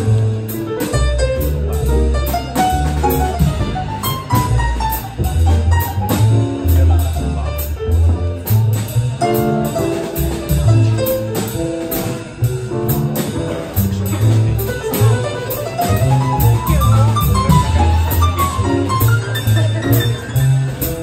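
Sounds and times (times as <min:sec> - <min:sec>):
double bass plucking: 0:00.0 - 0:21.0
drums and cymbal strokes: 0:00.0 - 0:21.0
piano chords: 0:00.0 - 0:21.0.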